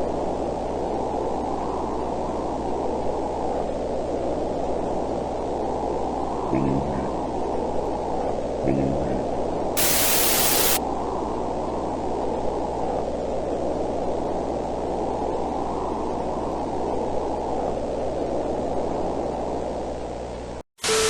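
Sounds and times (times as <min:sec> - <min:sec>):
low electrical hum: 0:00.0 - 0:20.6
muffled static hiss: 0:00.0 - 0:20.6.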